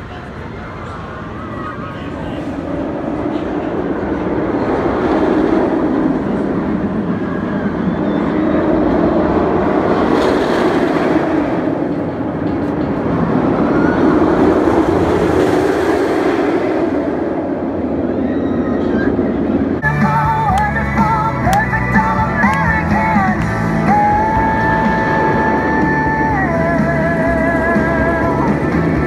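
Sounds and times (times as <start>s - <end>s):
roller coaster train rumbling: 0.0s - 29.0s.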